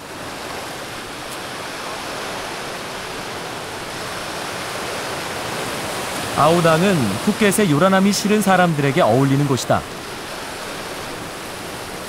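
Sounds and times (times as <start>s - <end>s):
small waves washing onto sand: 0.0s - 12.0s.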